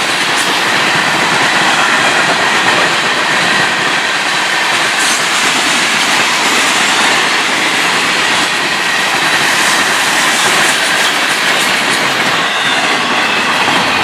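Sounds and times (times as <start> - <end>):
freight train rolling past: 0.0 - 14.0.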